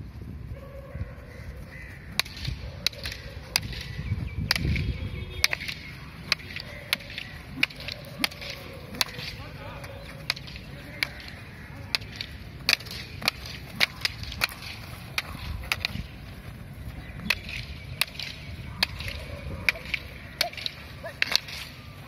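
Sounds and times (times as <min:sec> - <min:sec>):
wooden staffs clacking: 0:02.1 - 0:22.0.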